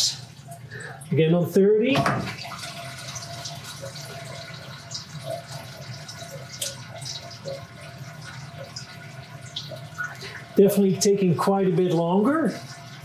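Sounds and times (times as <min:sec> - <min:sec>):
water trickling: 0:02.2 - 0:13.0
water dripping: 0:02.3 - 0:13.0.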